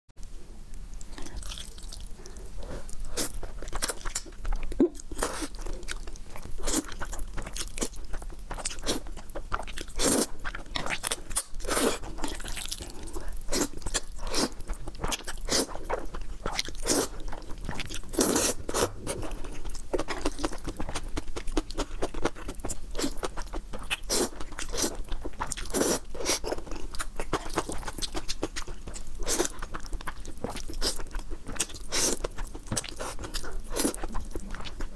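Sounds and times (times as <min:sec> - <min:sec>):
chewing with mouth clicks: 0:01.0 - 0:34.9.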